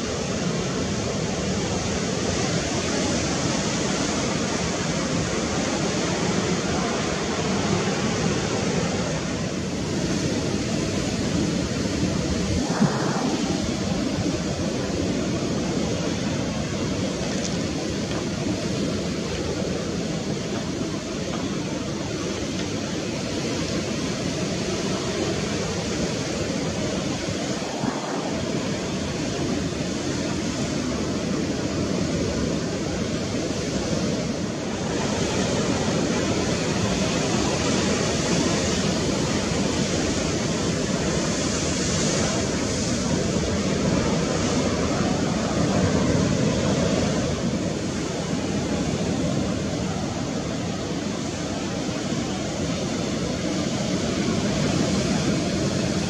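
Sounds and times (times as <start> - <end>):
sea surf: 0.0 - 56.0
wind: 0.0 - 56.0.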